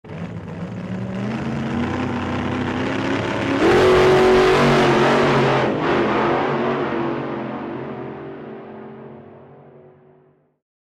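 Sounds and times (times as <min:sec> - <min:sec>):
engine revving: 0:00.1 - 0:09.4.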